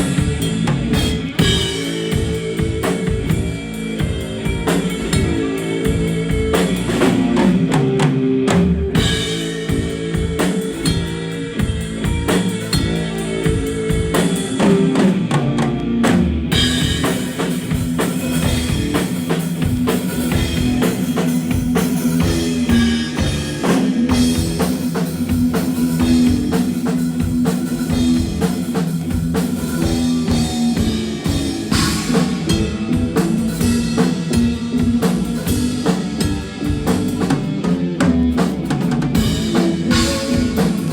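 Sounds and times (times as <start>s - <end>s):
live band music: 0.0s - 40.9s
sustained bass line: 0.0s - 40.9s.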